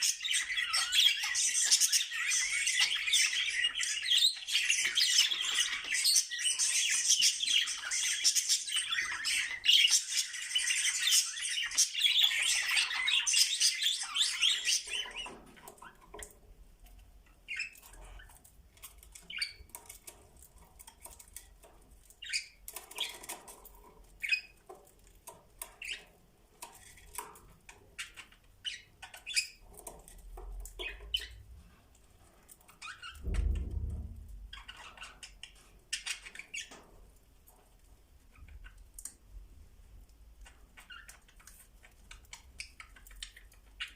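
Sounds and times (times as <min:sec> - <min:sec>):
budgies warbling and chattering: 0:00.0 - 0:16.3, 0:17.5 - 0:21.3, 0:22.2 - 0:24.7, 0:25.6 - 0:31.5, 0:32.7 - 0:33.7, 0:34.5 - 0:36.8, 0:40.4 - 0:43.9
faint clicks and scratches: 0:00.2 - 0:43.9.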